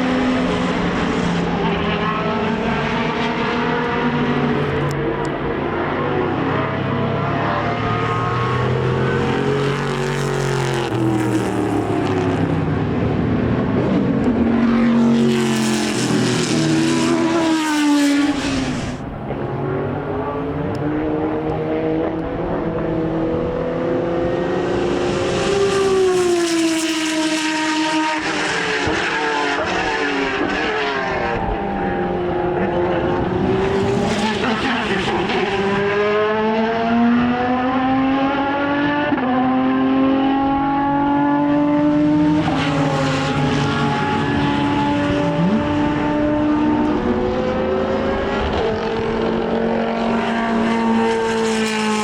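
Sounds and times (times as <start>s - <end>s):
racing car engines: 0.0s - 52.0s
racing car passing by: 0.0s - 52.0s.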